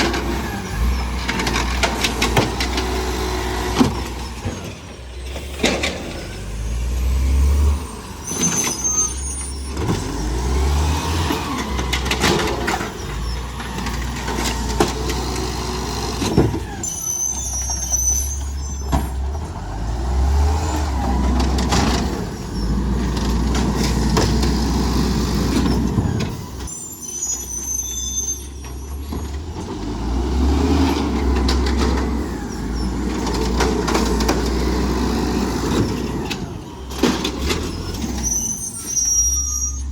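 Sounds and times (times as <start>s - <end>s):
diesel engine revving: 0.0s - 26.8s, 28.5s - 39.9s.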